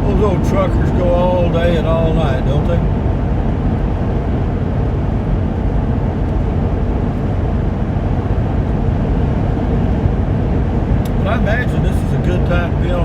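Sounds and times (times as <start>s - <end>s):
engine and road drone in cab: 0.0s - 13.0s.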